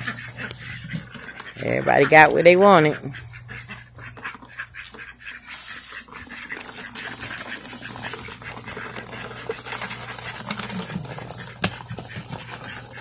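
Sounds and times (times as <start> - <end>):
ducks pecking and dabbling: 0.0 - 13.0.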